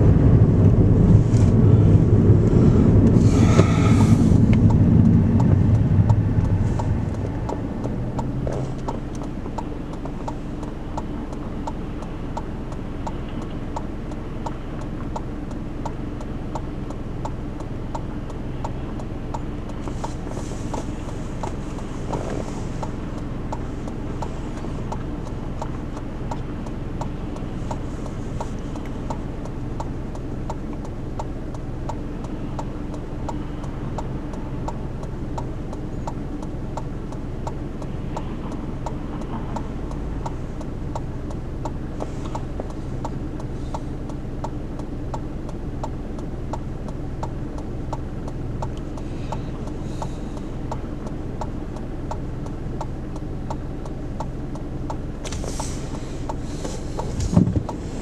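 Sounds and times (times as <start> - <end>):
car engine idling: 0.0 - 58.0
turn signal clicking: 0.0 - 58.0.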